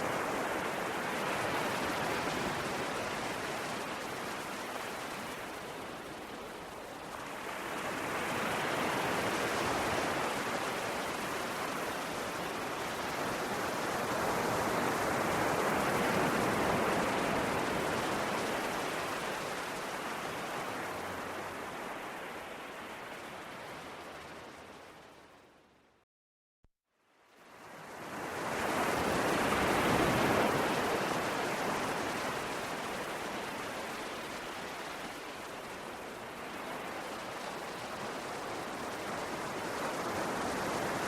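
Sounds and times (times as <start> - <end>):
ocean waves washing ashore: 0.0 - 25.5, 27.3 - 41.0.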